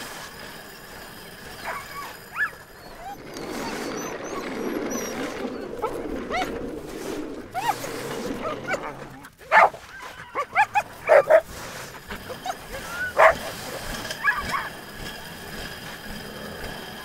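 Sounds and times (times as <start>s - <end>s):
dogs yipping and whining: 0.1s - 17.0s.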